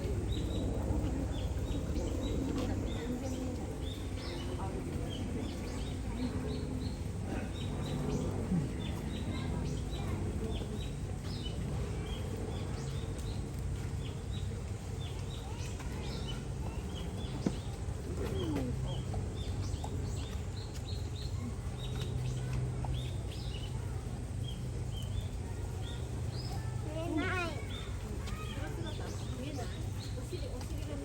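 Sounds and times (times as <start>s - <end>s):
low background hum: 0.0s - 31.0s
small birds chirping: 0.0s - 31.0s.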